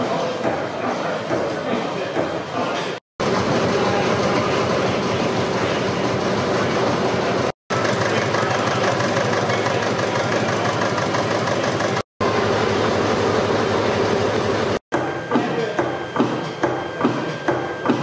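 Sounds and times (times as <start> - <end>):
stationary engines clattering: 3.2 - 18.0.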